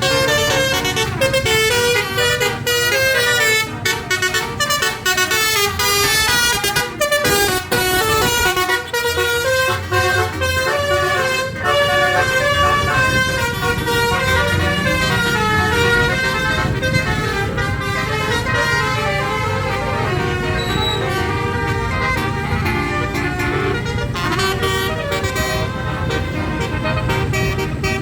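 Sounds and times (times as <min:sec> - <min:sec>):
bus engine running: 0:00.0 - 0:28.0
multi-tone air horn playing tune: 0:00.0 - 0:28.0.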